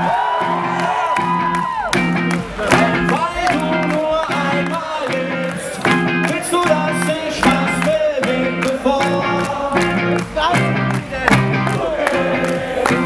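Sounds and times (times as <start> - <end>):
drums: 0.0 - 13.0
rhythmic electric guitar chords: 0.0 - 13.0.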